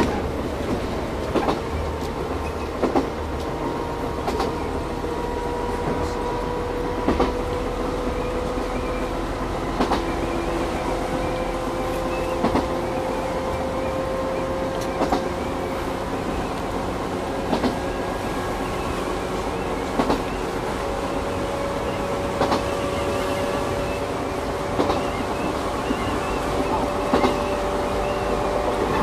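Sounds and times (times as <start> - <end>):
electric train motors rumbling and whining: 0.0 - 29.0
wheels clacking over rail joints: 0.0 - 29.0.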